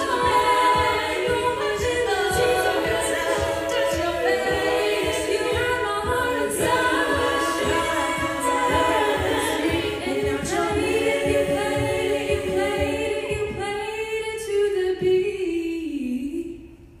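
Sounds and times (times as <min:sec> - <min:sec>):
beatboxed kick drum thumps: 0:00.0 - 0:15.2
a cappella group singing: 0:00.0 - 0:16.5.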